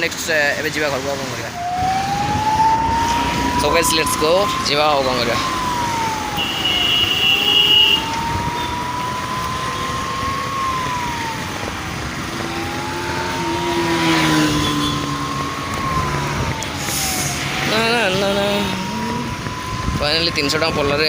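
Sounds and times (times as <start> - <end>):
street traffic noise: 0.0 - 21.0
emergency siren wailing: 1.4 - 21.0.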